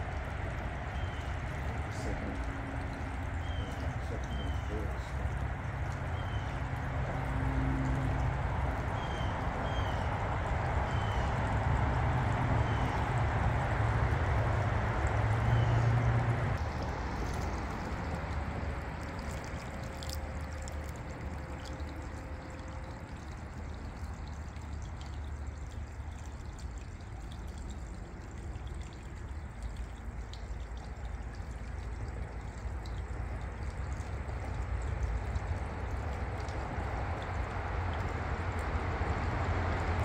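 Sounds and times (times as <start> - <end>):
low hum: 0.0 - 40.0
water pouring and trickling: 0.0 - 40.0.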